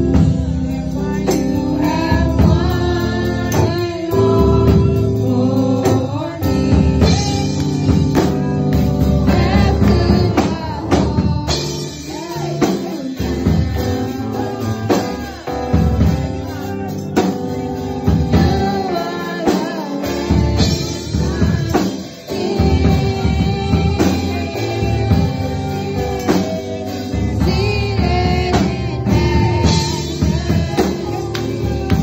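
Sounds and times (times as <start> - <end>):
band playing: 0.0 - 32.0
drum kit beat: 0.0 - 32.0
vocal group singing: 0.0 - 32.0.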